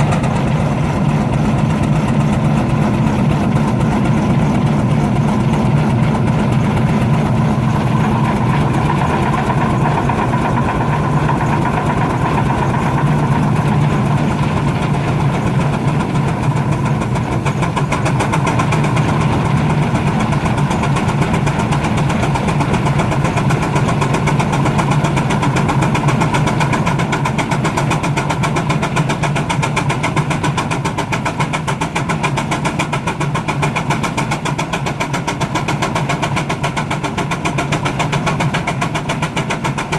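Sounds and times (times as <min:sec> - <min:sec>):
steam traction engine running: 0:00.0 - 0:39.9.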